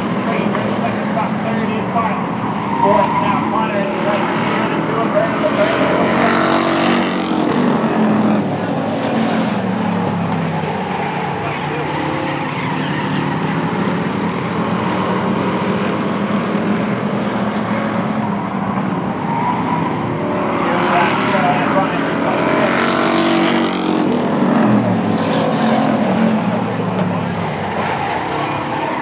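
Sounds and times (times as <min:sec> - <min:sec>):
stock car engines racing: 0:00.0 - 0:29.0.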